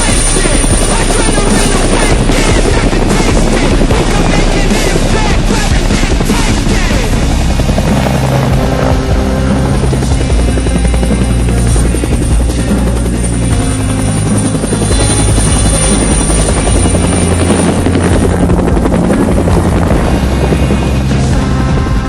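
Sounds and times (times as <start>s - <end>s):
helicopter rotor chopping: 0.0s - 22.0s
music with low bass line: 0.0s - 22.0s.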